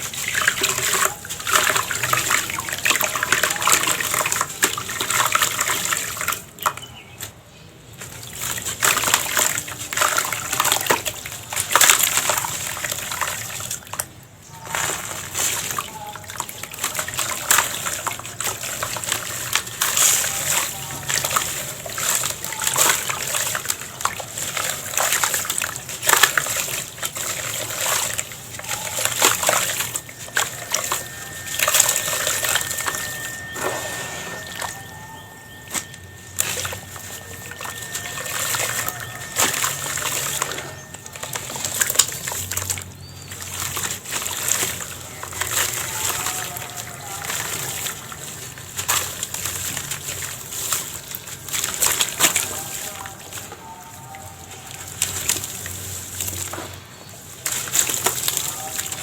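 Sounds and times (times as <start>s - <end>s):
sand-cement crunching and crumbling: 0.0s - 59.0s.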